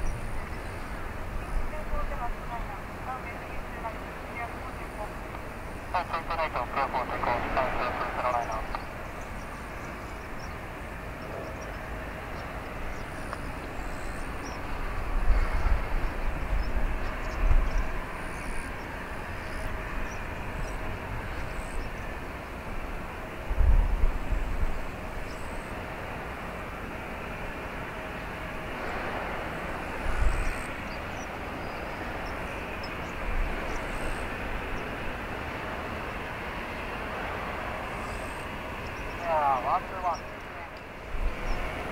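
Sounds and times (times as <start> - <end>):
airliner taxiing rumble: 0.0 - 41.9.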